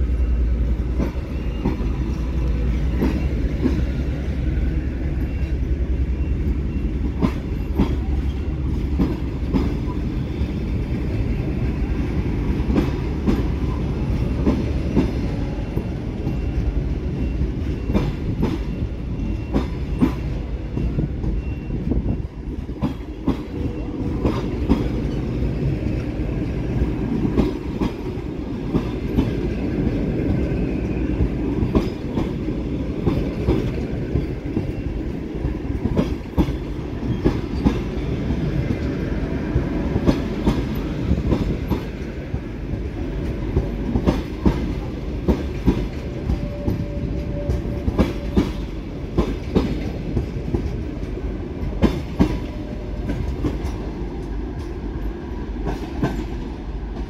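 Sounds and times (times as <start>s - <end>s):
train coaches rumbling: 0.0s - 57.0s
train wheels clacking on rail joints: 0.0s - 57.0s.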